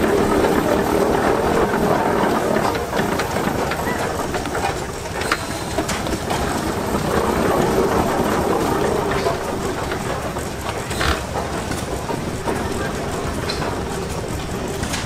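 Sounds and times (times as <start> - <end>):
steam traction engine clattering: 0.0 - 15.0.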